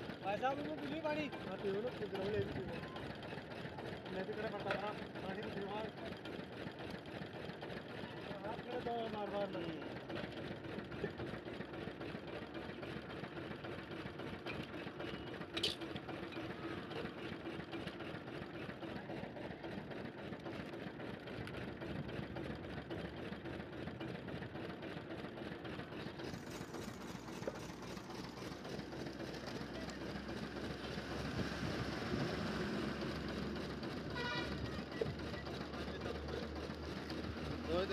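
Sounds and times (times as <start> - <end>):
juice crusher machine humming: 0.0 - 37.9.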